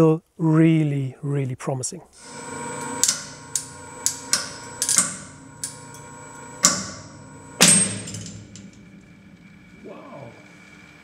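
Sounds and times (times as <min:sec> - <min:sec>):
faint steady hum: 0:02.1 - 0:11.0.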